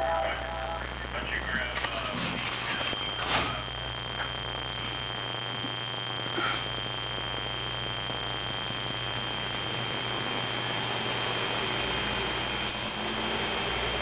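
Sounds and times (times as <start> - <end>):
electrical hum: 0.0 - 14.0
high steady whine: 0.0 - 14.0.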